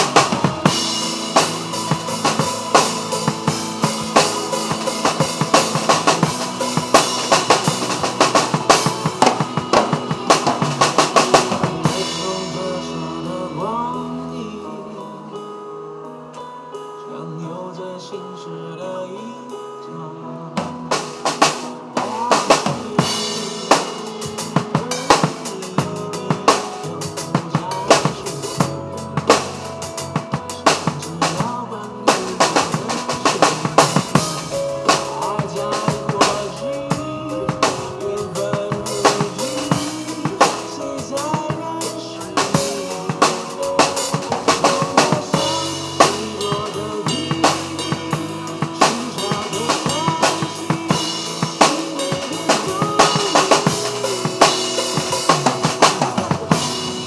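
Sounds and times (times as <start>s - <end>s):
drum kit groove: 0.0s - 14.0s, 20.6s - 57.0s
instrumental backing track: 0.0s - 57.0s.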